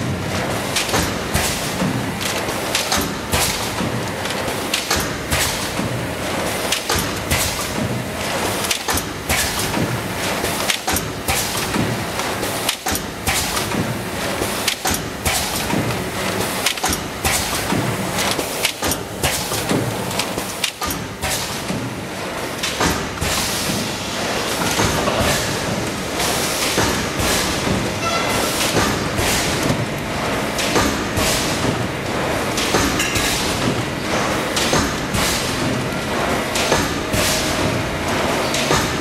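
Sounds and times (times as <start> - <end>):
machine mechanical clatter: 0.0 - 39.0
sharp machine clacks and knocks: 0.0 - 39.0.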